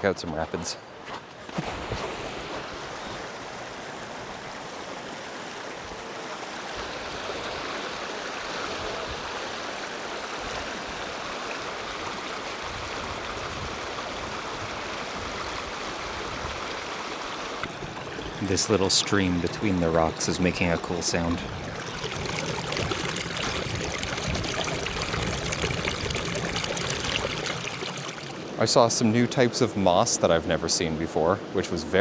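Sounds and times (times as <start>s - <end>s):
stream rushing between rocks: 2.0s - 30.8s.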